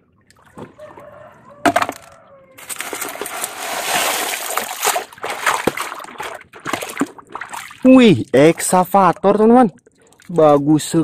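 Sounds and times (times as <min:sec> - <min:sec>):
muddy water splashing and sloshing: 0:00.0 - 0:01.4, 0:02.4 - 0:11.0.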